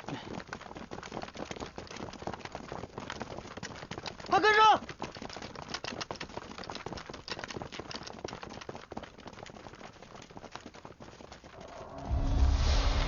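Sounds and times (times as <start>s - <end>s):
soldiers' gear clattering: 0.0s - 11.8s
quick irregular footsteps: 0.0s - 12.1s.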